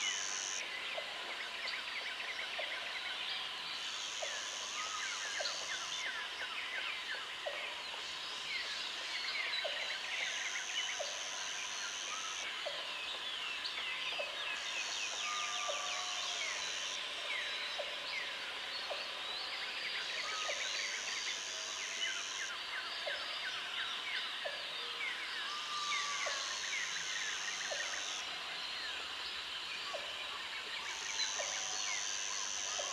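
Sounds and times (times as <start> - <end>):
insect drone: 0.0 - 32.9.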